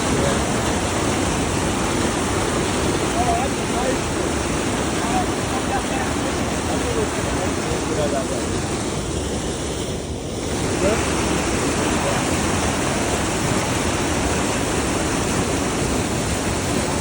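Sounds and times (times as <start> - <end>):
water rushing through a dam: 0.0 - 17.0.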